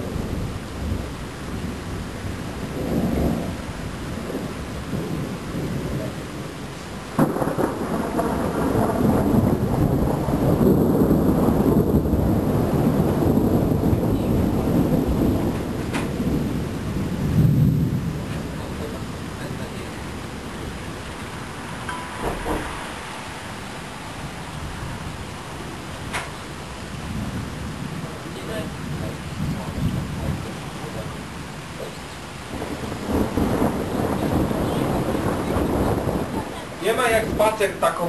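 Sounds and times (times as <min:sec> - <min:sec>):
rolling rumble of thunder: 0:00.0 - 0:38.0
steady rain: 0:00.0 - 0:38.0
thunderclap: 0:00.0 - 0:38.0.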